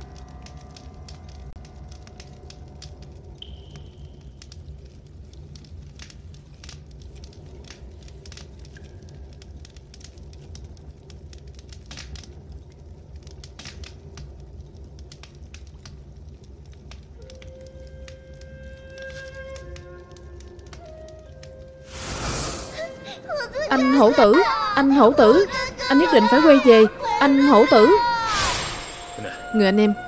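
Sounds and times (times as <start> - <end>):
torch flame burning: 0.0 - 23.7, 28.0 - 29.6
flame crackling: 0.0 - 30.0.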